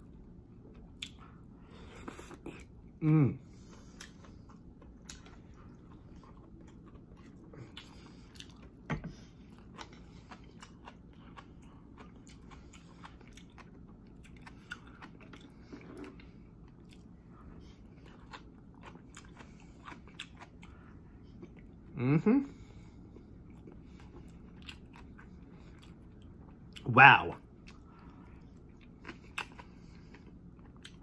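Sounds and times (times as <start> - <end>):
chewing crunchy food: 0.0 - 31.0.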